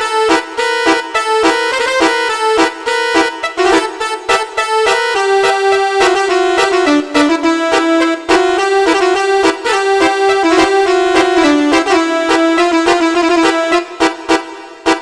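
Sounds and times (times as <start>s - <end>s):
electronic horn melody: 0.0s - 15.0s.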